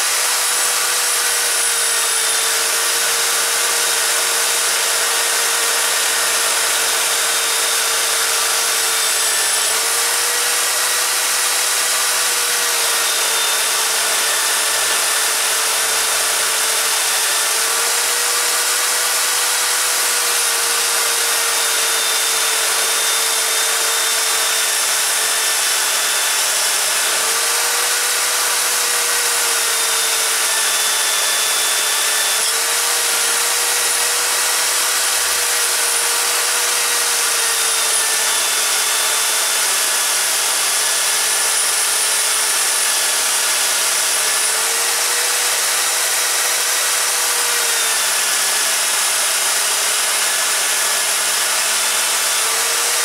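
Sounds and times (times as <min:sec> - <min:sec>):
power tool motor hum: 0:00.0 - 0:53.0.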